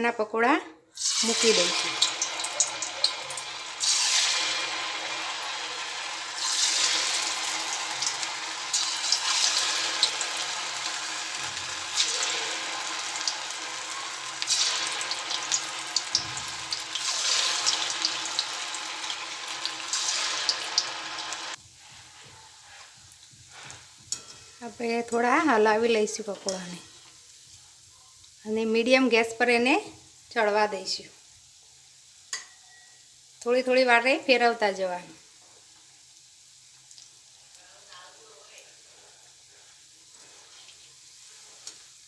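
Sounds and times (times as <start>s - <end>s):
hot oil sizzling: 0.9s - 42.0s.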